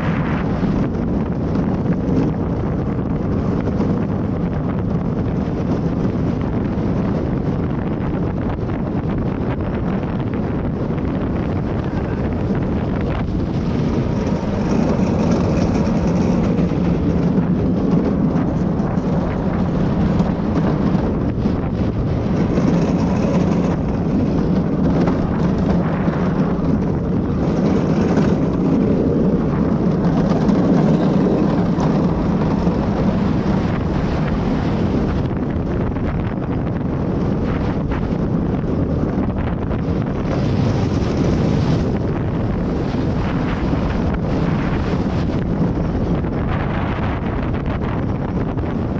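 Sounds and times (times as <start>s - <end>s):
low rumble: 0.0s - 48.9s
wind noise on microphone: 0.0s - 48.9s.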